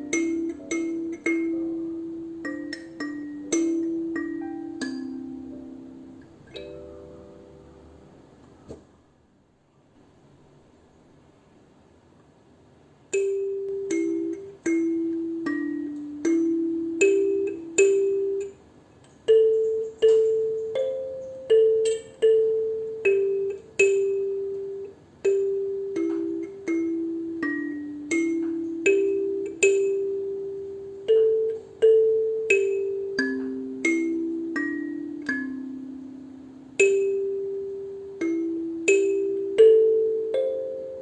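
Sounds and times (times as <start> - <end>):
kalimba plucked melody: 0.0 - 7.8, 13.2 - 18.6, 19.3 - 41.0.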